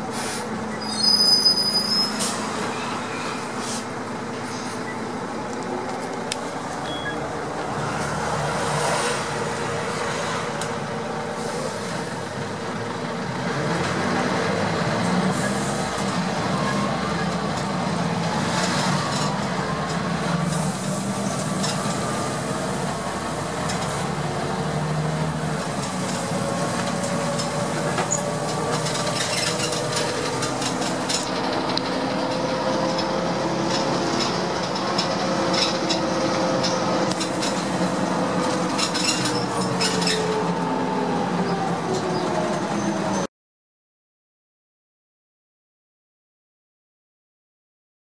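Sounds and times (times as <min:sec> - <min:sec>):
bus engine and road noise: 0:00.0 - 0:43.3
engine whine: 0:02.2 - 0:43.2.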